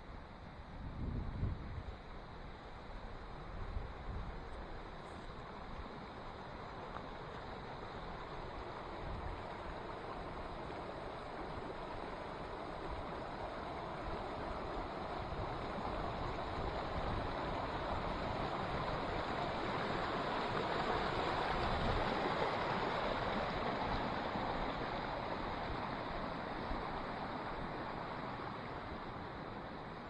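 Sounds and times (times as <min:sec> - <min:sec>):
creek running over rocks: 0:01.9 - 0:30.0.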